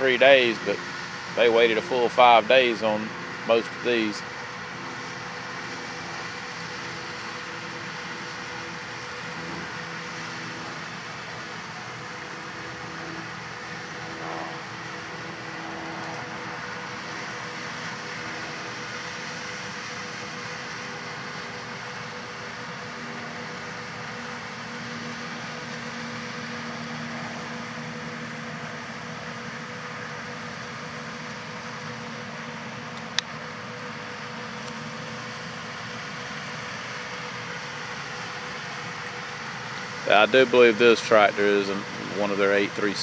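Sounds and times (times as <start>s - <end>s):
tractor and combine engines droning: 0.0s - 43.0s.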